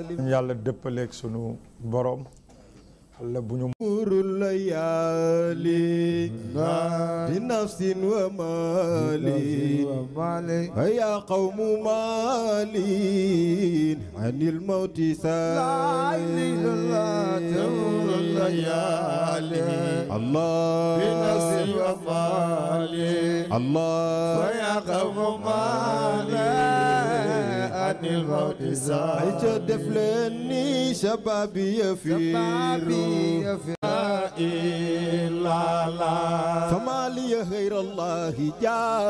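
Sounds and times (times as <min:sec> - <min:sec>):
men chanting devotional poetry: 0:00.0 - 0:02.2, 0:03.2 - 0:39.0.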